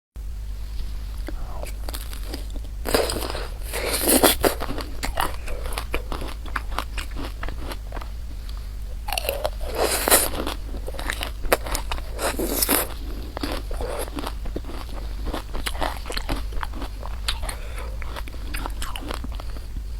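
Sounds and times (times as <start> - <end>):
chewing and biting: 1.2 - 19.9.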